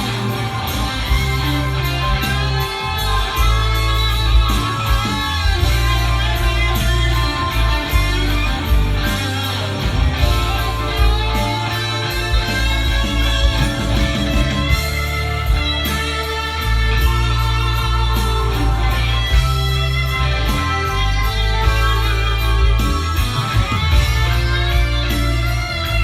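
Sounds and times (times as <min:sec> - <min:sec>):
rock music with guitar and bass: 0:00.0 - 0:26.0.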